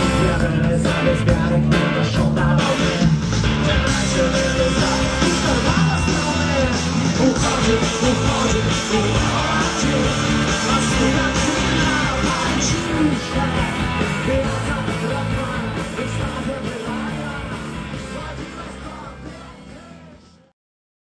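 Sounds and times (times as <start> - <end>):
live rock band playing: 0.0 - 20.2
person singing: 0.0 - 20.5.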